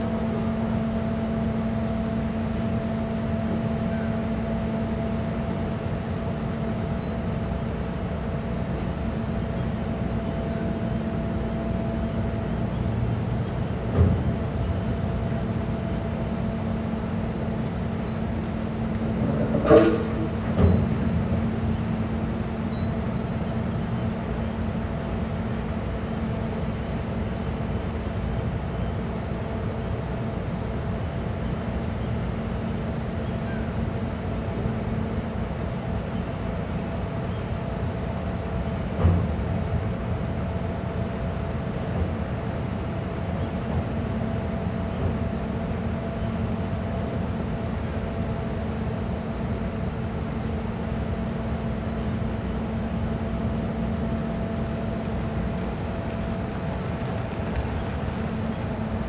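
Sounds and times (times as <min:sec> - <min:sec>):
ship machinery humming: 0:00.0 - 0:59.0.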